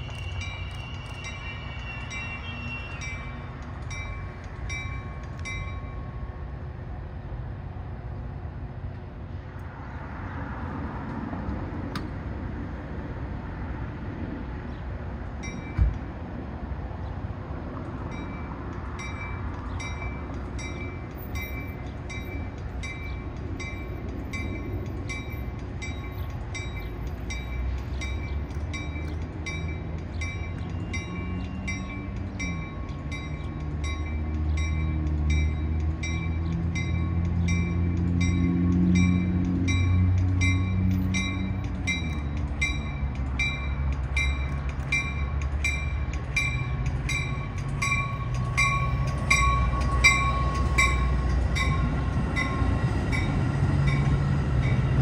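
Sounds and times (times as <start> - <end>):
crossing bell ringing: 0.0 - 6.7, 15.4 - 15.9, 18.0 - 55.0
train rumbling: 0.0 - 55.0.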